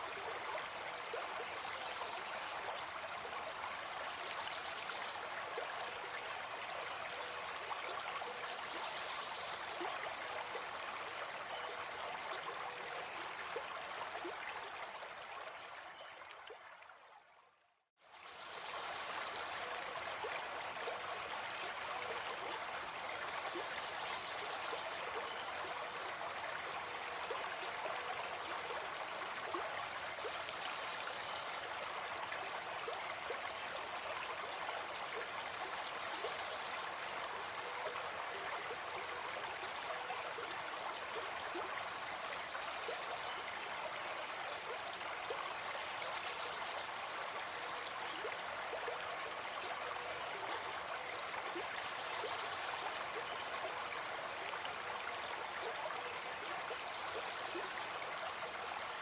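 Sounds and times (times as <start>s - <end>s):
stream flowing: 0.0s - 17.4s, 18.0s - 59.0s.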